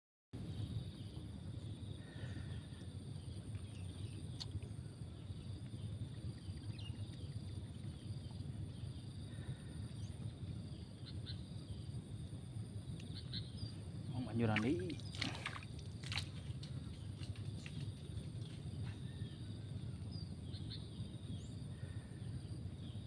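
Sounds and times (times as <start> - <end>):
high insect drone: 0.4 - 23.0
wind rumble: 0.4 - 23.0.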